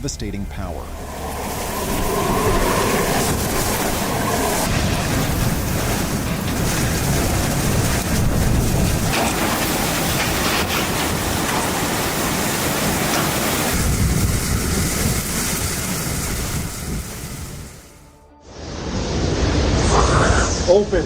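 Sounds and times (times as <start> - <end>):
strong wind buffeting microphone: 0.4 - 18.0
heavy rain: 0.8 - 18.0.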